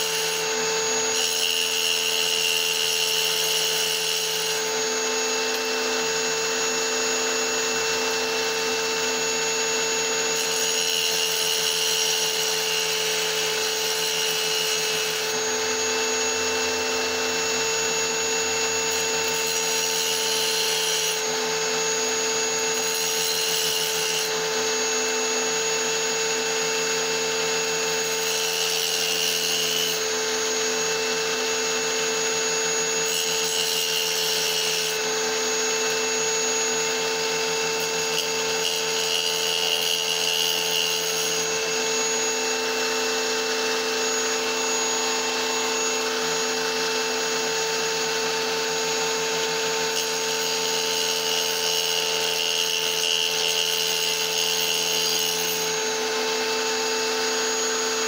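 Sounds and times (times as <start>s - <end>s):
saw grinding stone: 0.0s - 58.0s
tile saw motor whine: 0.0s - 58.0s.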